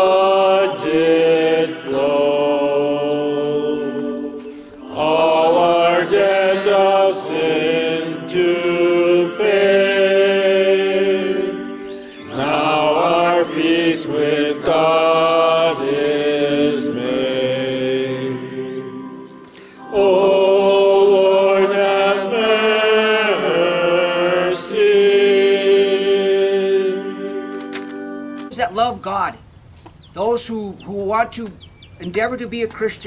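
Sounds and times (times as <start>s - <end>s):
slow hymn singing: 0.0s - 28.5s.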